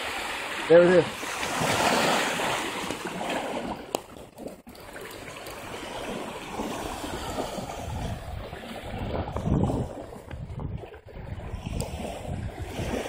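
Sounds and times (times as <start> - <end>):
water lapping at shoreline: 0.0 - 13.0.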